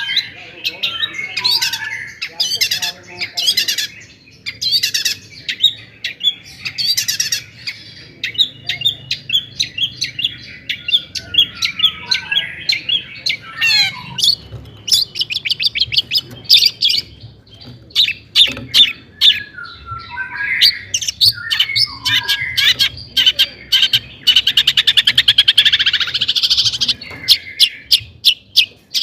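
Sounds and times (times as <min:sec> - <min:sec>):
shrike singing: 0:00.0 - 0:29.0.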